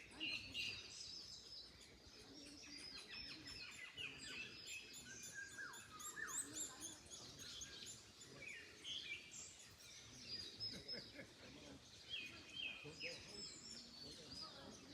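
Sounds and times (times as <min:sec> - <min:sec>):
small birds chirping: 0:00.0 - 0:14.9
wind in trees: 0:00.0 - 0:14.9.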